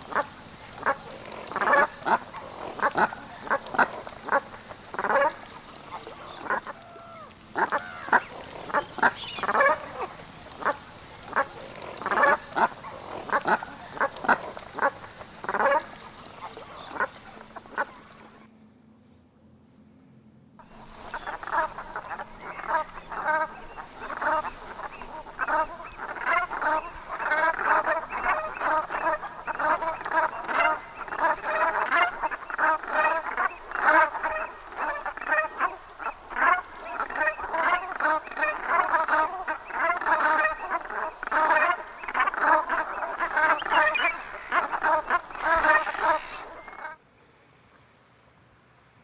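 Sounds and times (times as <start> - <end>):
geese honking: 0.0 - 18.4, 20.6 - 47.0.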